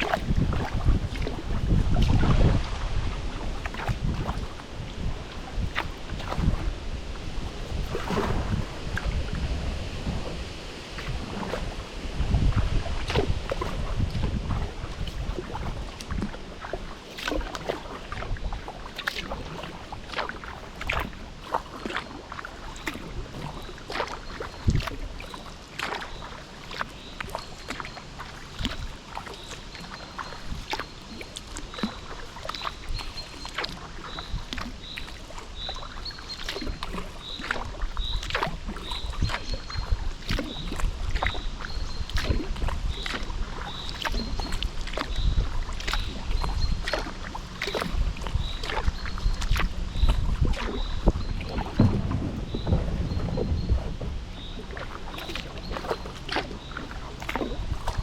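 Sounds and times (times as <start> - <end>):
paddle pulling through water: 0.0 - 58.0
water splashes and drips: 0.0 - 58.0
wind rumble on microphone: 0.0 - 58.0.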